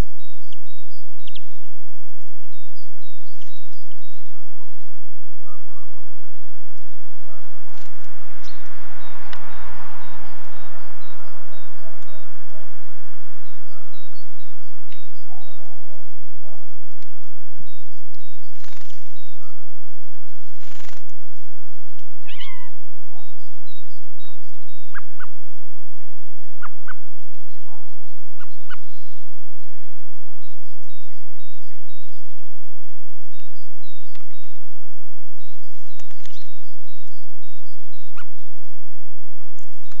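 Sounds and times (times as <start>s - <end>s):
small birds chirping: 0.0s - 25.4s, 26.2s - 32.5s, 33.2s - 34.6s, 35.4s - 38.6s.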